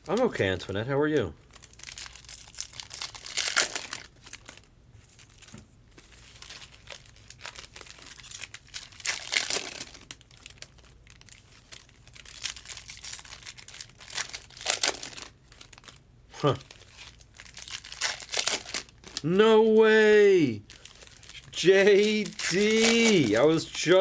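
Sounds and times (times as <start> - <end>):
card pack wrappers crinkling and tearing: 1.5 - 24.0.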